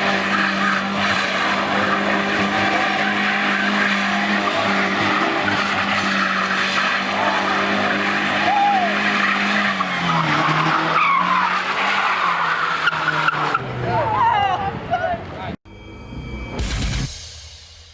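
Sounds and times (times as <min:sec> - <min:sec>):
truck engine revving: 0:00.0 - 0:14.9
tires squealing on pavement: 0:00.0 - 0:15.5.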